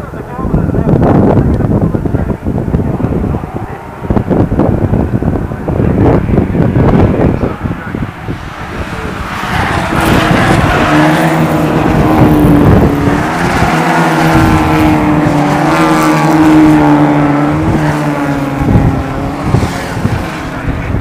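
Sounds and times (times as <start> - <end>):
race cars driving past: 0.0 - 21.0.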